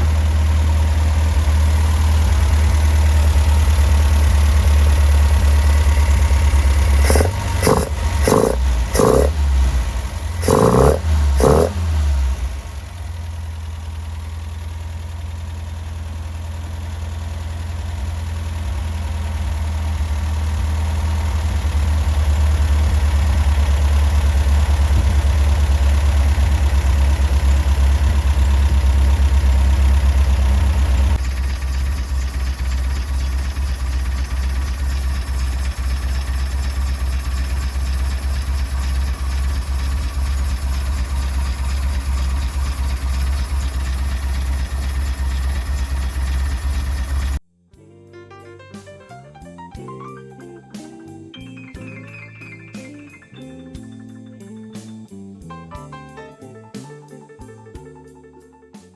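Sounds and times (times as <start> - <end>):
car engine idling: 0.0 - 47.4.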